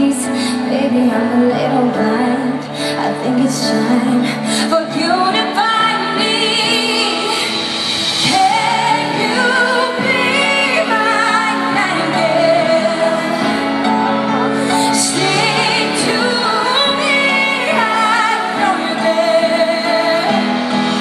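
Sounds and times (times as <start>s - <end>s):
woman singing a slow ballad: 0.0s - 21.0s.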